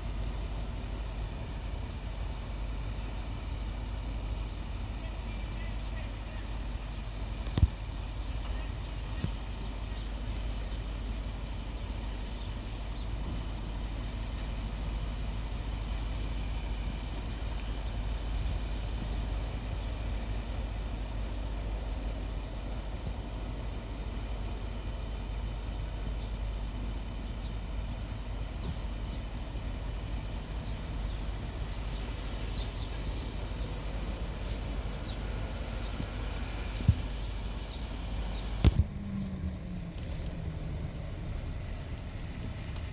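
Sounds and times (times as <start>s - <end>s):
fire truck engine idling: 0.0s - 42.9s.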